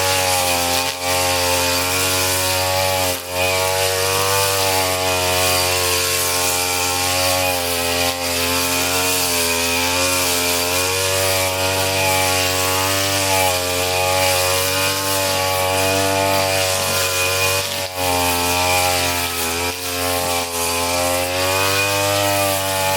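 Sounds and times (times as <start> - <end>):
brush cutter running at high revs: 0.0 - 22.9.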